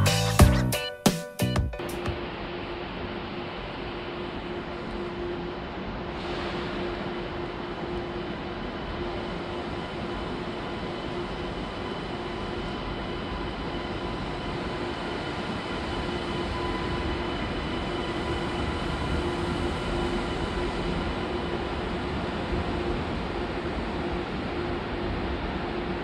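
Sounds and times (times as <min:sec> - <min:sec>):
train rolling rumble: 0:01.8 - 0:26.0.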